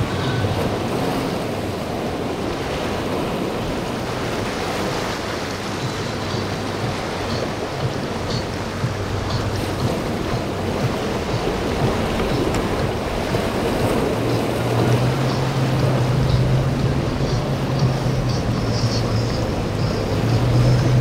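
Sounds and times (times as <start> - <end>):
motorboat engine drone: 0.0 - 21.0
waves and spray: 0.0 - 21.0
wind on microphone: 0.0 - 21.0.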